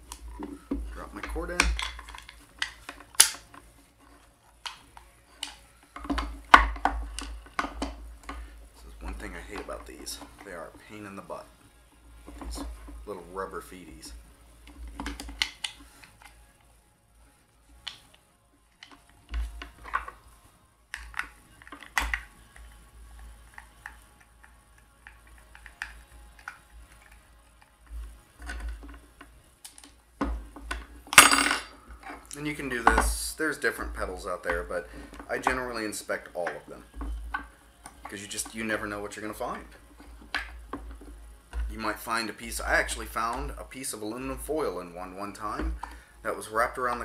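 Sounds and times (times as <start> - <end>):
plastic parts clicking and knocking: 0.0 - 10.6, 14.6 - 16.4, 18.7 - 20.2, 20.9 - 22.8, 23.5 - 44.7, 45.3 - 47.0.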